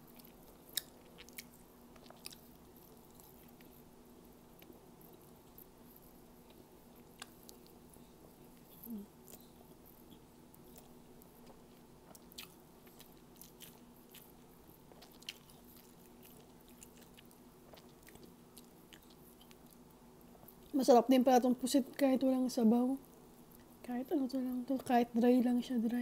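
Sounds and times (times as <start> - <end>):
faint chewing: 0.0 - 20.8, 23.0 - 23.9
faint steady background hum: 0.0 - 26.0.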